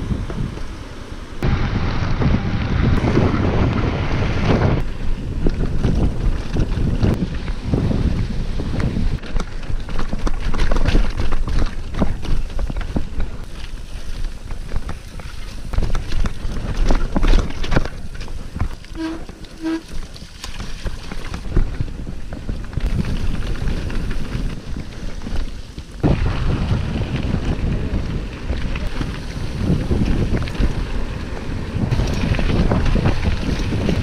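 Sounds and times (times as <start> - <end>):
wind buffeting microphone: 0.0 - 34.0
bike rattling and knocking: 4.6 - 34.0.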